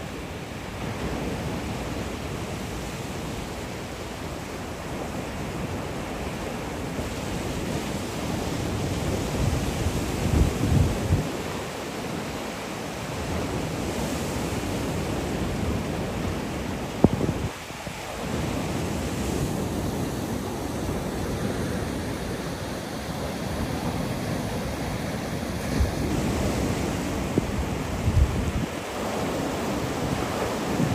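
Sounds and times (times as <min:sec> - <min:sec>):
sea waves washing on beach: 0:00.0 - 0:30.9
wind gusting on microphone: 0:00.0 - 0:30.9.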